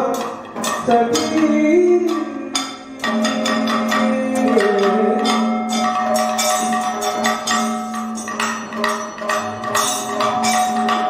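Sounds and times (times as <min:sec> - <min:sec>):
cymbals struck: 0:00.0 - 0:11.0
drum strokes: 0:00.0 - 0:11.0.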